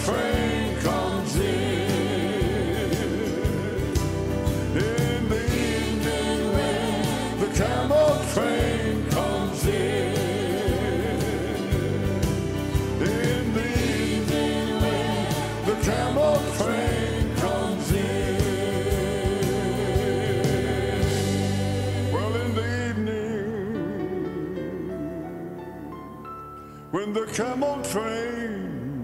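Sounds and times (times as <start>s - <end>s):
drums: 0.0s - 23.9s
vocal group singing gospel: 0.0s - 25.4s
piano: 0.0s - 29.0s.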